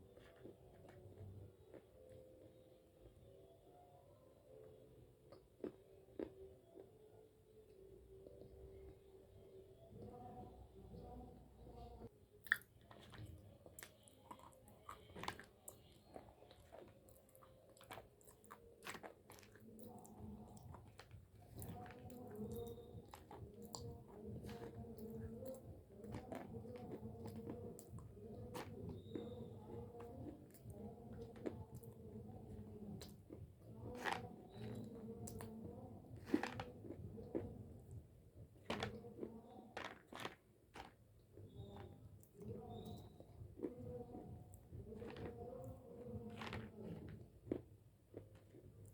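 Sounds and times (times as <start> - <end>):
crunching and chewing clay: 0.0 - 3.2, 5.2 - 7.0, 12.4 - 48.9.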